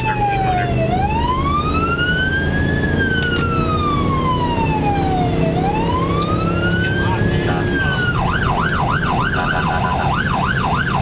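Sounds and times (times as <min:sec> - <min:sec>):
electronic siren wailing: 0:00.0 - 0:11.0
truck engine and road rumble: 0:00.0 - 0:11.0.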